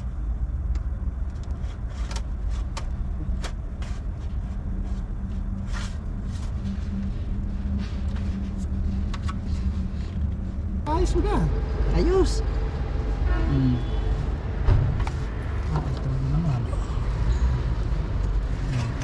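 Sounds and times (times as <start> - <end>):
low engine-like hum: 0.0 - 19.0.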